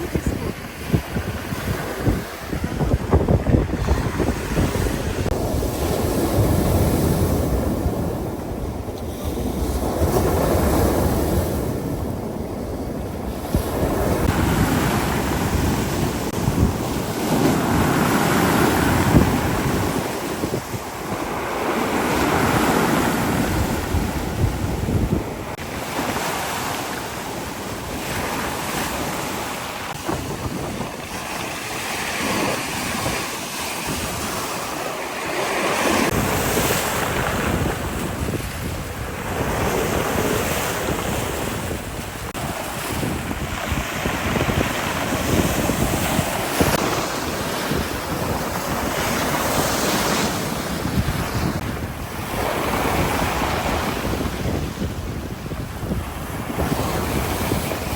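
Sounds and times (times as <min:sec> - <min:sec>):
waves breaking: 0:00.0 - 0:57.9
wind buffeting microphone: 0:00.0 - 0:57.9.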